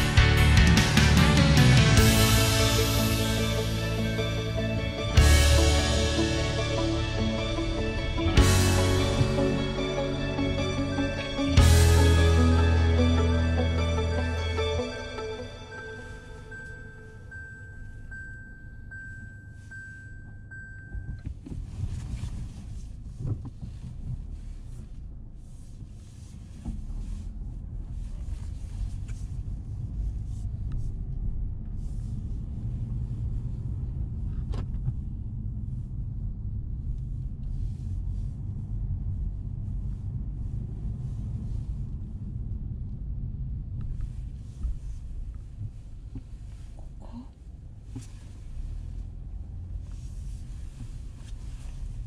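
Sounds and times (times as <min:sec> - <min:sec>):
car rumbling: 0:00.0 - 0:52.0.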